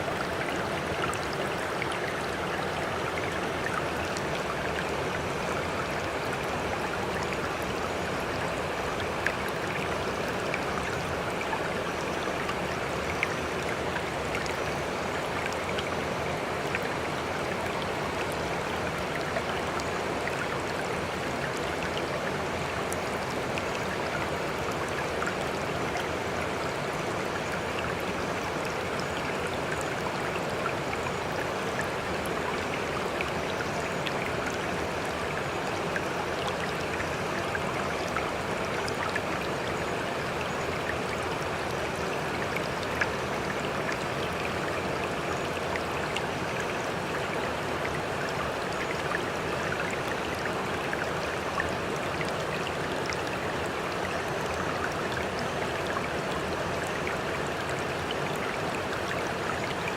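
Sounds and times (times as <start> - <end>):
small water splashes and drips: 0.0 - 59.9.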